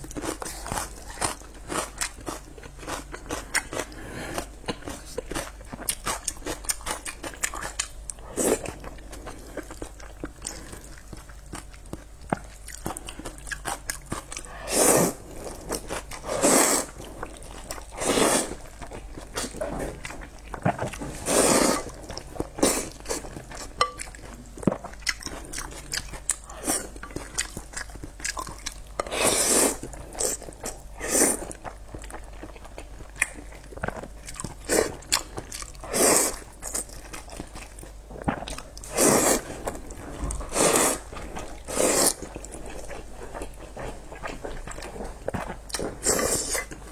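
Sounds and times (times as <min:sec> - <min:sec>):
close eating and chewing: 0:00.0 - 0:46.9.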